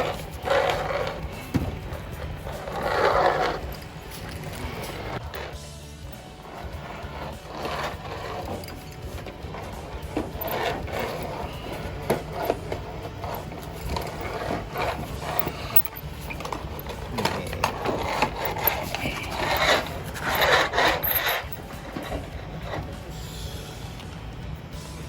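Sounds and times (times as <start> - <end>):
metal bending roller scraping: 0.0 - 24.0.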